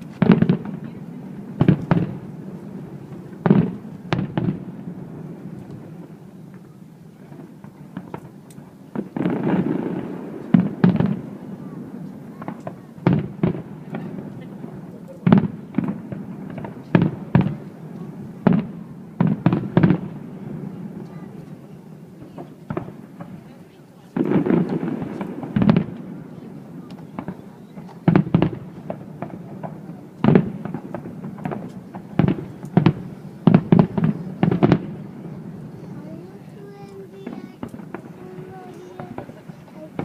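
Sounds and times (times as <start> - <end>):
firework bangs: 0.0 - 40.0
firework crackling: 0.0 - 40.0.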